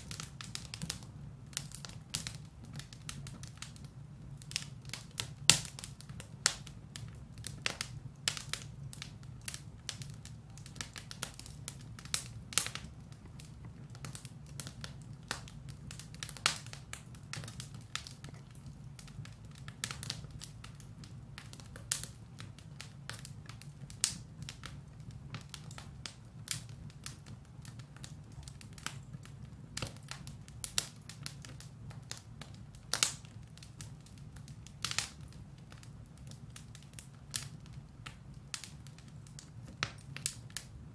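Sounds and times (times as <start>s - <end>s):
fire crackling and popping: 0.0s - 40.9s
fire low rumble: 0.0s - 40.9s.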